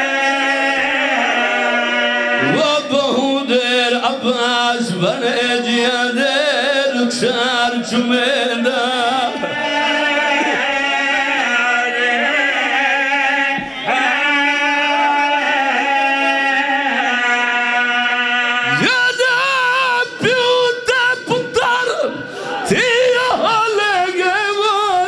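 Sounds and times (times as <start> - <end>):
man chanting mournful verse: 2.4 - 25.0.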